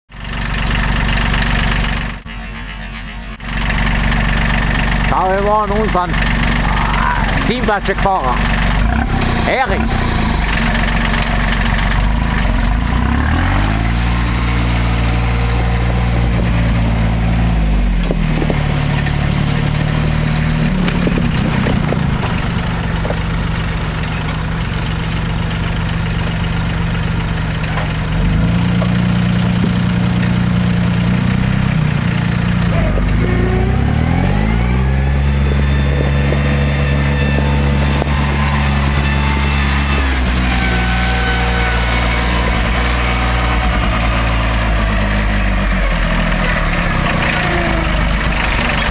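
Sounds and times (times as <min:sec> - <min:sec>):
diesel engine revving: 0:00.1 - 0:48.9.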